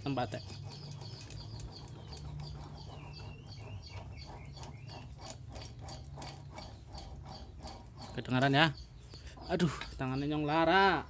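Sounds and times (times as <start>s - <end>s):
rough gritty engine ticking: 0.0s - 11.0s.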